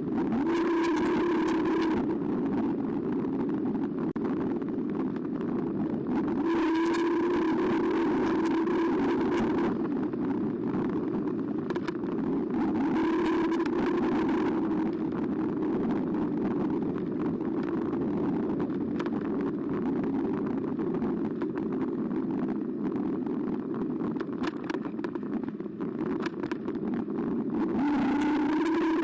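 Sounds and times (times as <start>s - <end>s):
tyres and wind rumble: 0.0s - 29.0s
sharp clicks and rattles: 0.1s - 29.0s.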